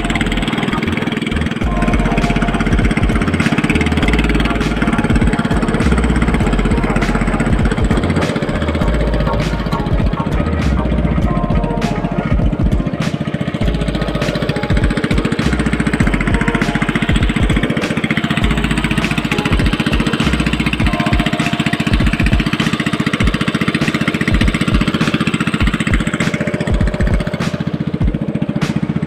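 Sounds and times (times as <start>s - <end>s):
small boat engine running: 0.0s - 29.0s.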